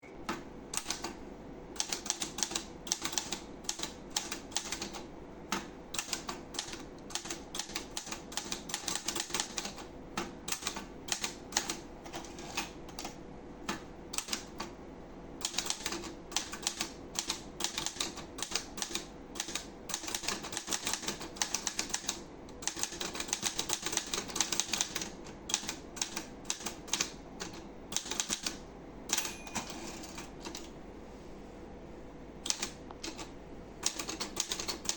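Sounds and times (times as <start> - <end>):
typewriter keystroke clacks: 0.3 - 1.2, 1.8 - 14.7, 15.4 - 30.7, 32.4 - 34.9.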